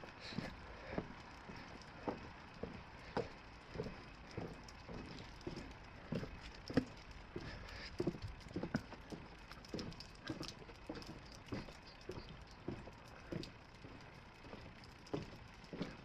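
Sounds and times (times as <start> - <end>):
footsteps on wet pavement: 0.0 - 16.0.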